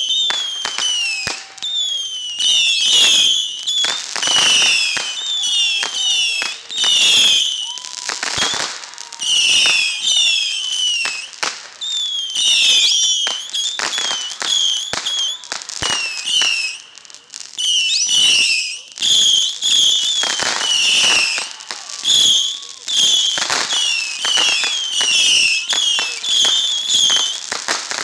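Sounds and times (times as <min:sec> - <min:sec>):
firework pops and bangs: 0:00.0 - 0:28.0
whistling firework shots: 0:00.0 - 0:28.0.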